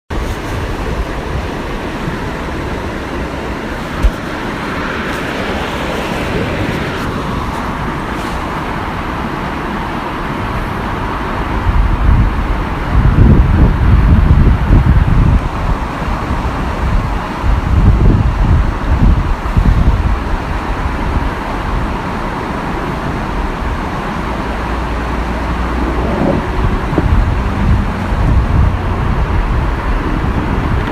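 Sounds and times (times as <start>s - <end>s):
waterfall rushing: 0.1s - 30.8s
wind buffeting microphone: 0.1s - 30.9s.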